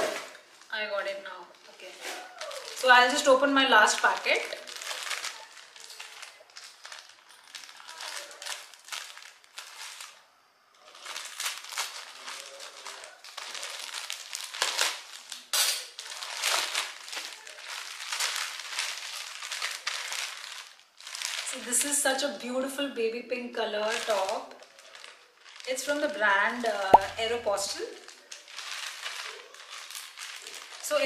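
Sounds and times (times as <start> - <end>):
plastic packaging crinkling: 0.0 - 22.2, 23.8 - 31.0.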